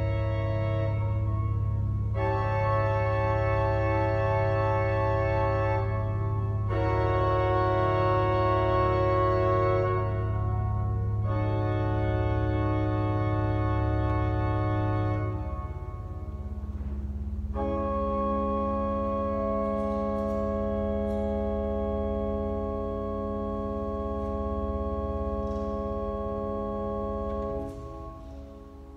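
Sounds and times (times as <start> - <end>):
low organ pedal note: 0.0 - 28.9
pipe organ sustained chords: 0.0 - 28.9.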